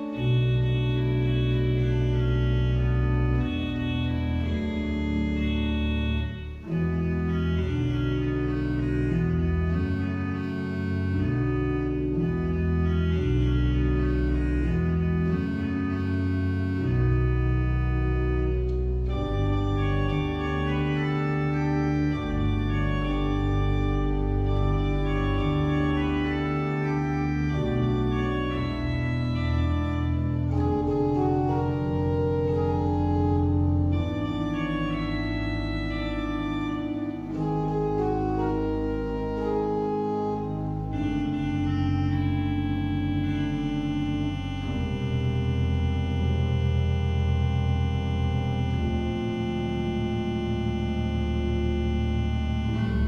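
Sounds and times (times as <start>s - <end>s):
church organ chords: 0.0s - 53.0s.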